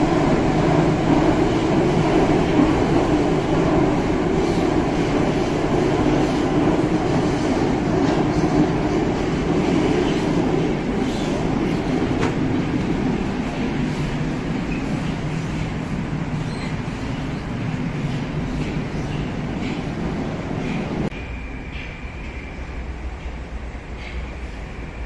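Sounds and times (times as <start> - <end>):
metro train rumbling on rails: 0.0 - 25.0.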